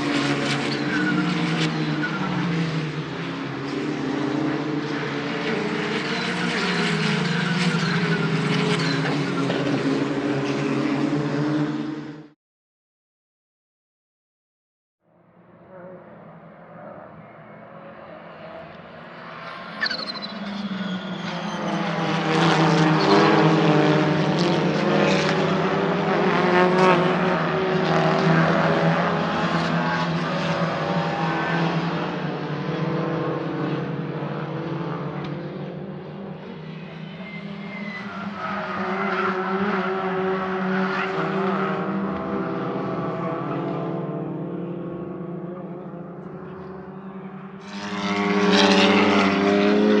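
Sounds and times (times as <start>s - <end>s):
racing cars passing: 0.0s - 12.4s, 15.4s - 50.0s.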